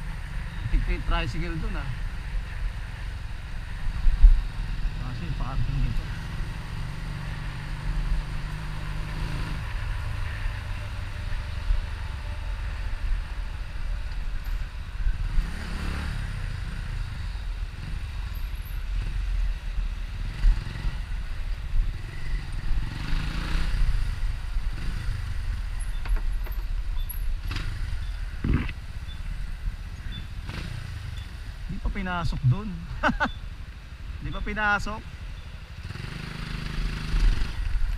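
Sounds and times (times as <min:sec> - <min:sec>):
motorcycle engine at low speed: 0:00.0 - 0:37.9.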